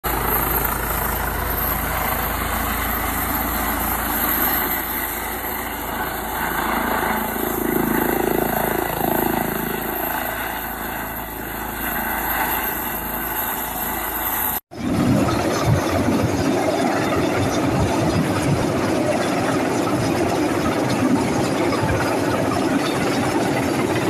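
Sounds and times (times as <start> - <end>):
helicopter rotor and turbine noise: 0.0 - 24.0.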